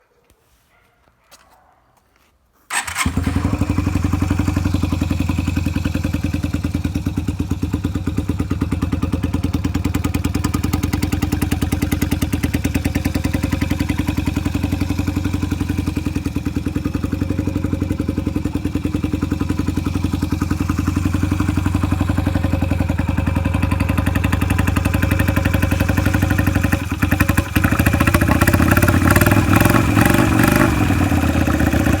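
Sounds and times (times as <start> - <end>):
motorcycle engine starting and idling: 2.7 - 32.0.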